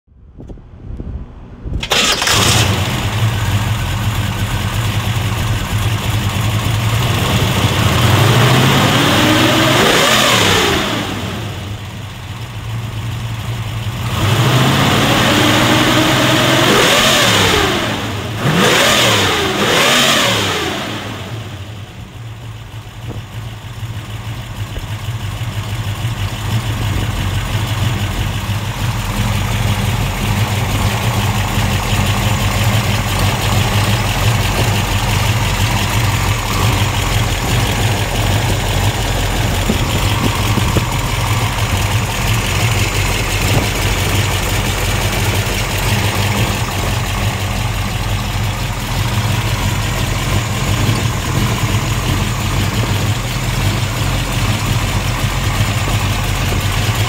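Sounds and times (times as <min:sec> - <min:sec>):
car engine starting and idling: 0:01.2 - 0:57.0
car engine revving: 0:01.9 - 0:12.1, 0:13.2 - 0:22.2, 0:25.4 - 0:57.0.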